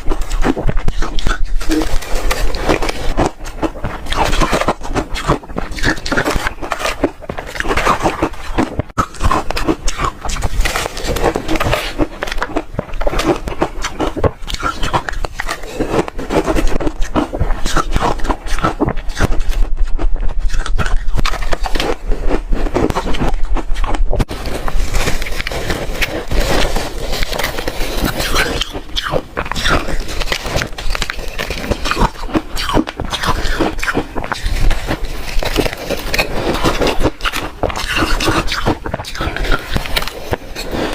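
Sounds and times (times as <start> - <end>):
ice being chewed crunching: 0.0 - 40.9.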